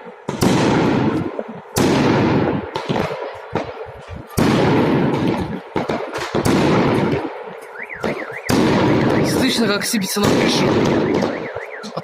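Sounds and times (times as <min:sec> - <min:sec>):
fireworks bangs: 0:00.0 - 0:12.0
sharp firework cracks: 0:00.2 - 0:11.6.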